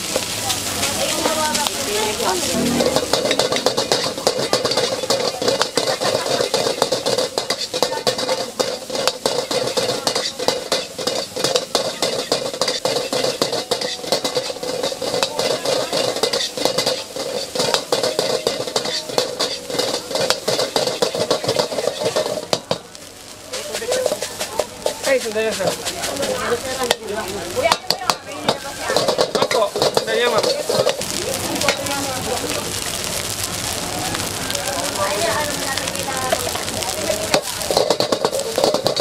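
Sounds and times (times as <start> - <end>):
metal spatula scraping wok: 0.0 - 32.0, 35.8 - 39.0
food sizzling: 0.0 - 39.0.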